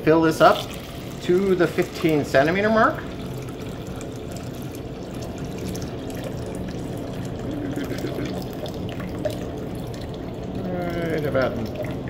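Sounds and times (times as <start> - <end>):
water pouring into a plastic bottle: 0.4 - 12.0.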